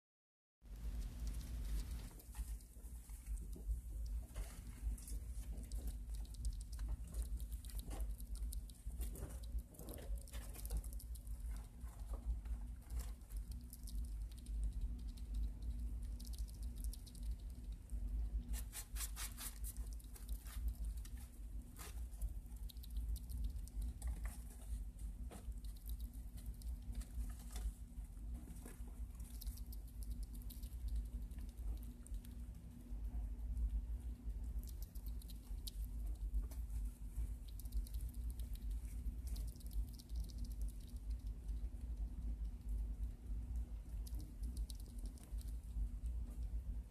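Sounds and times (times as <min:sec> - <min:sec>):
rat chewing: 0:00.6 - 0:46.9
steady low hum: 0:00.6 - 0:46.9.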